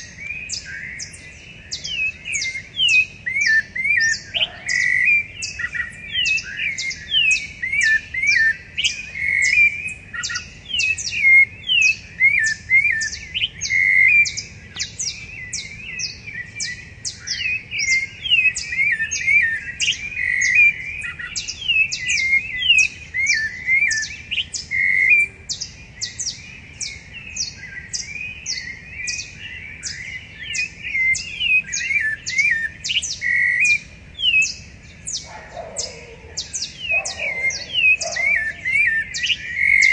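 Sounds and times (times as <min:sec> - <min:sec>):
thrushes singing: 0:00.0 - 0:39.9.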